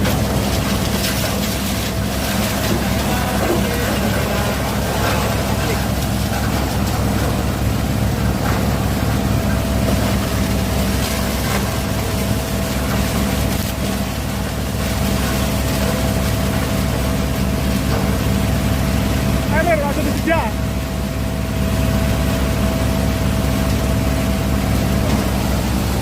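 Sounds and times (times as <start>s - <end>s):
conveyor machine motor drone: 0.0s - 26.0s.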